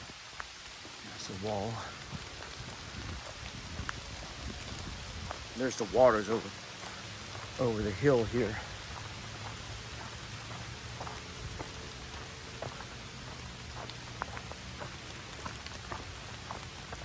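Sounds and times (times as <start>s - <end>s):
rain falling: 0.0s - 17.0s
raindrops ticking close by: 0.0s - 17.0s.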